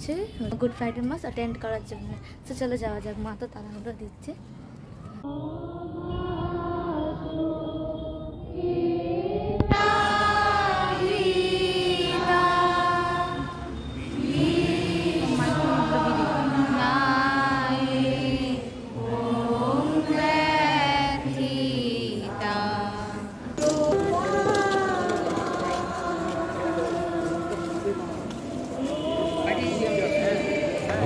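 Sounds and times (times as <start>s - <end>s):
people singing a slow hymn: 5.2s - 31.0s.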